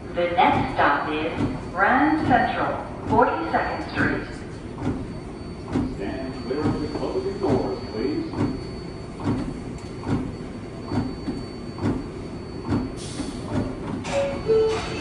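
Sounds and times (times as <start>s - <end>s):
subway car rumble: 0.0s - 15.0s.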